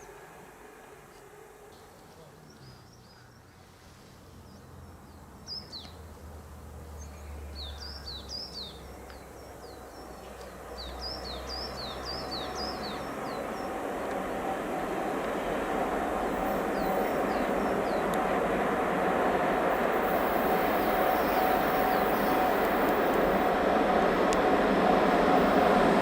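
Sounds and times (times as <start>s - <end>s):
train rumbling: 0.0s - 5.3s, 6.1s - 26.0s.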